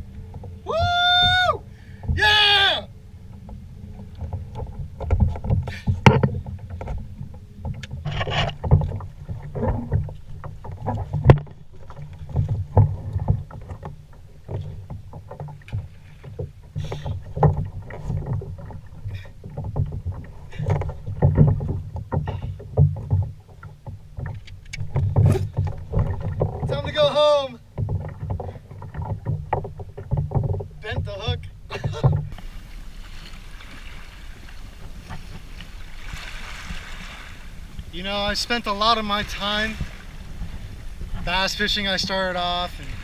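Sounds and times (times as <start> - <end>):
knocks and clunks on kayak: 0.0 - 43.0
water rumbling against hull: 0.0 - 43.0.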